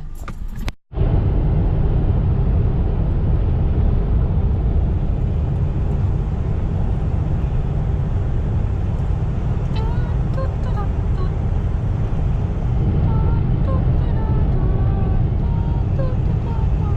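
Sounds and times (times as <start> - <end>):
road and wind noise: 0.0 - 16.9.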